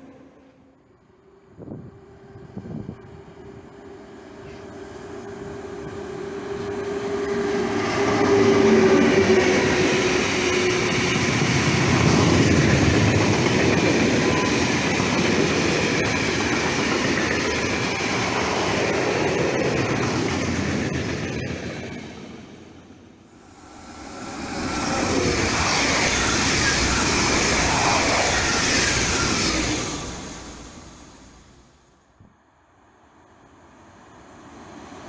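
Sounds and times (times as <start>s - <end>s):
train wheels on rails: 2.5s - 31.7s.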